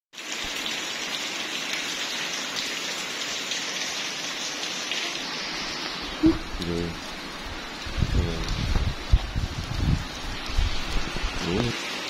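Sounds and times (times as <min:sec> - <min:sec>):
rain falling on puddles: 0:00.2 - 0:12.0.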